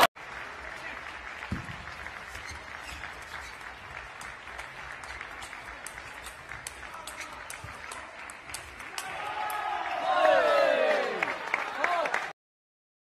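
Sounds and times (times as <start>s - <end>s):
applause in a large hall: 0.0s - 12.4s.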